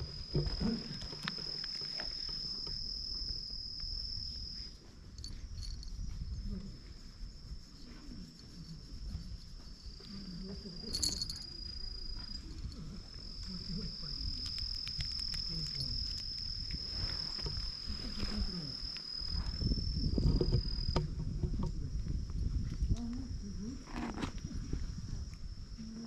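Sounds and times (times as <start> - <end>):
high-pitched insect drone: 0.0 - 21.7.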